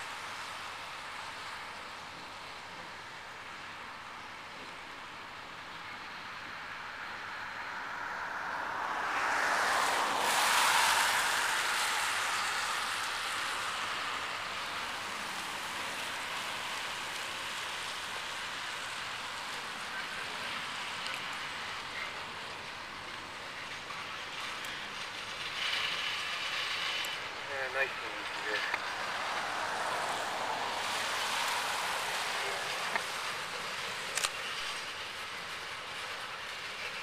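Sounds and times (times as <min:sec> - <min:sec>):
railroad tank cars rolling: 0:00.0 - 0:37.0.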